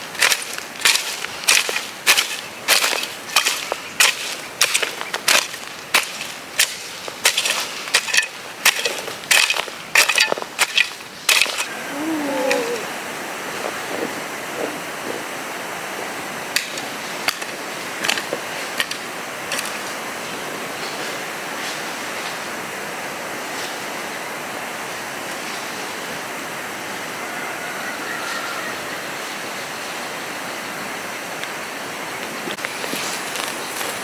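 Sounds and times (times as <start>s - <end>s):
steady rushing hiss: 0.0s - 27.5s, 28.1s - 34.0s.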